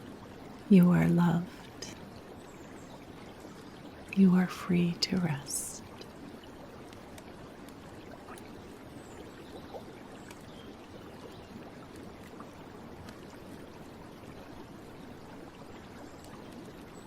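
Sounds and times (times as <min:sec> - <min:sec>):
gentle stream flowing: 0:00.0 - 0:17.0
water ticks: 0:00.0 - 0:17.0.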